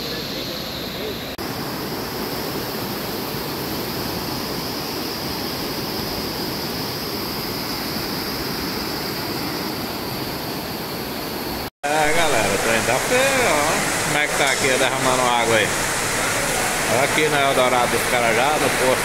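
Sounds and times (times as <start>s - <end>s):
floodwater rushing: 1.0s - 19.0s.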